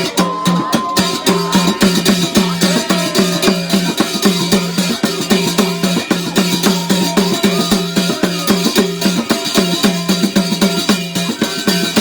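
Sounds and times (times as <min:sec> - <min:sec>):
fast steady folk drumming: 0:00.0 - 0:12.0.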